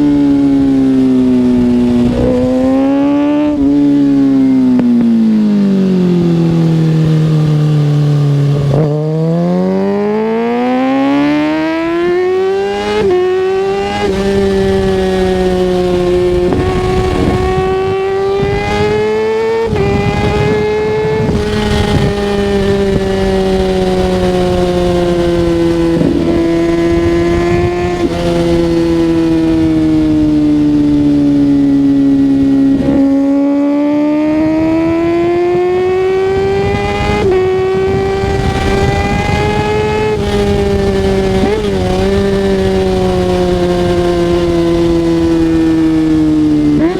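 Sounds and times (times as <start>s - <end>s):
motorcycle engine revving: 0.0s - 46.9s
wind buffeting microphone: 0.0s - 46.9s.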